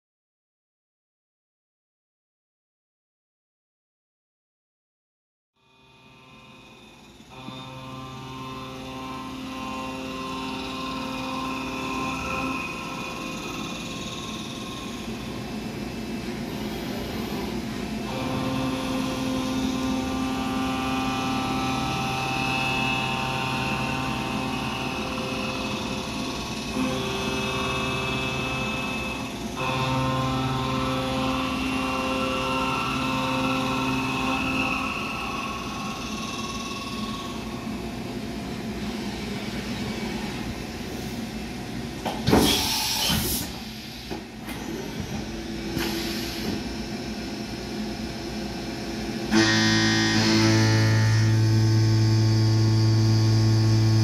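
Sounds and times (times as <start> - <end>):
steady multi-pitch whine: 5.6 - 41.9, 46.6 - 54.0
machining center running: 5.6 - 54.0.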